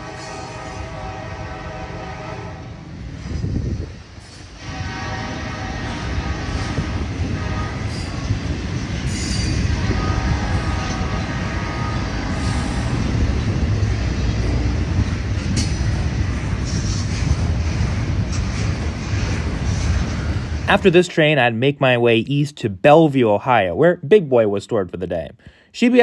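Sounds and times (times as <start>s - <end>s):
freight train wheels rumbling: 0.0s - 23.2s.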